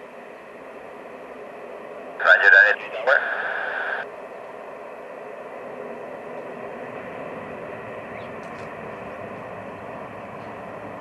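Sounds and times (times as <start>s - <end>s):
distant turboprop engines droning: 0.0s - 11.0s.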